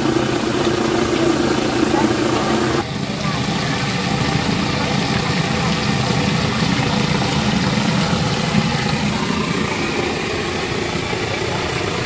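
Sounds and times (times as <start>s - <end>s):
fish sizzling in oil: 0.0s - 11.4s.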